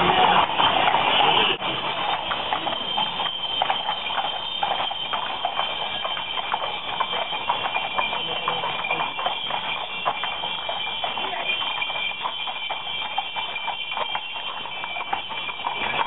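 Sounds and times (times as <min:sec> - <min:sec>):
horse hooves clopping on pavement: 0:00.0 - 0:16.0
steady high ringing: 0:02.0 - 0:15.8.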